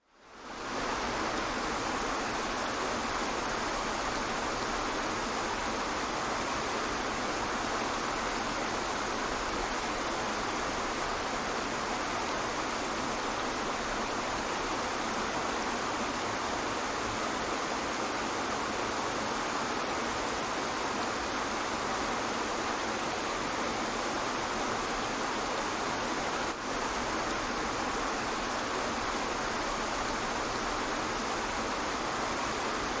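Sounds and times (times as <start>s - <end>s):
waterfall rushing: 0.3s - 33.0s.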